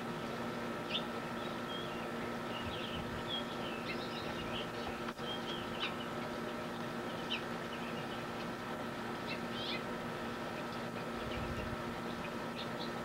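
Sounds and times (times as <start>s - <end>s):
songbirds chirping: 0.0s - 13.0s
steady background hum: 0.0s - 13.0s.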